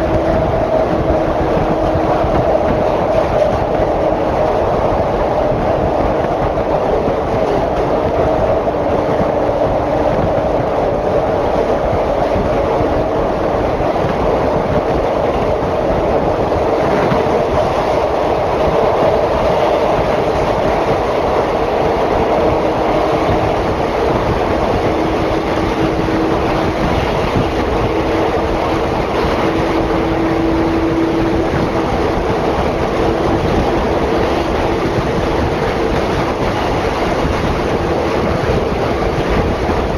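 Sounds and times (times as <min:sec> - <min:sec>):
train wheel and track noise: 0:00.0 - 0:39.9.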